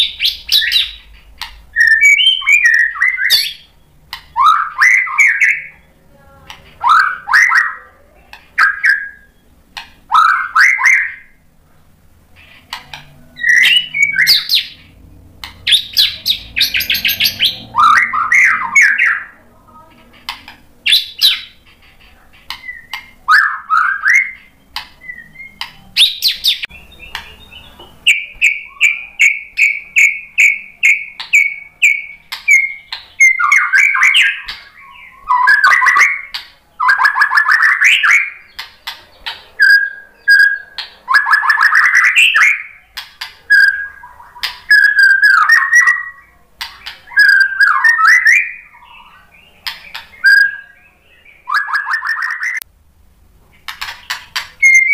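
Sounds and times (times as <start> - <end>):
bird singing varied song: 0.0 - 11.5, 12.3 - 52.7, 53.5 - 54.9.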